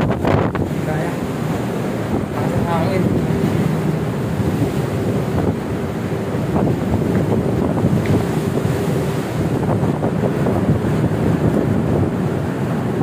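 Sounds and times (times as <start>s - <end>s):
choppy sea wash: 0.0s - 13.0s
wind buffeting microphone: 0.0s - 13.0s.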